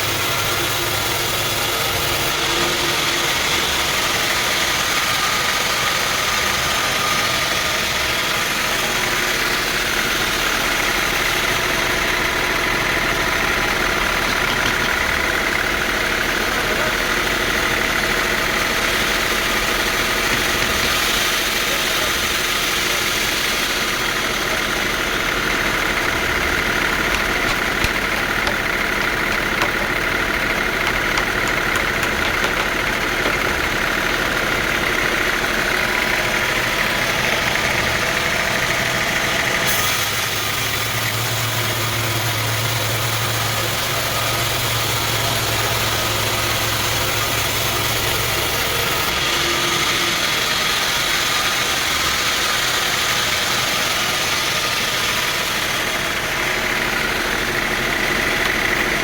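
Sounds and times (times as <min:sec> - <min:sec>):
sawmill machinery drone: 0:00.0 - 0:59.0.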